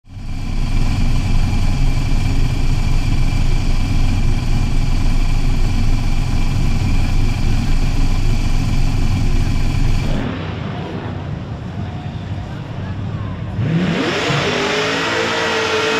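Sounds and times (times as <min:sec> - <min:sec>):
big engine idling: 0:00.0 - 0:13.7.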